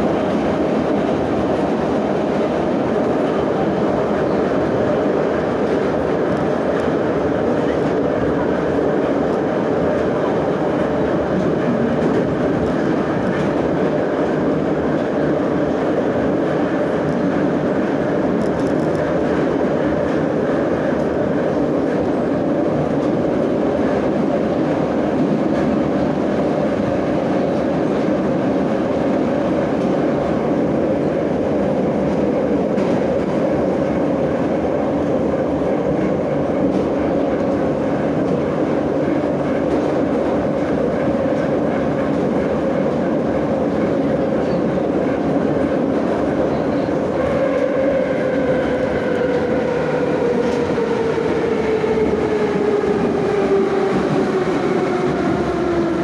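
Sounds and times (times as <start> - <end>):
train rumbling through tunnel: 0.0 - 56.0.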